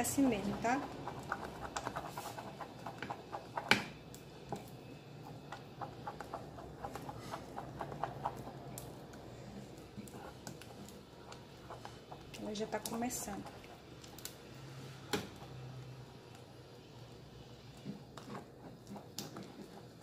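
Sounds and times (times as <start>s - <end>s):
spoon stirring thick paste: 0.0s - 20.0s.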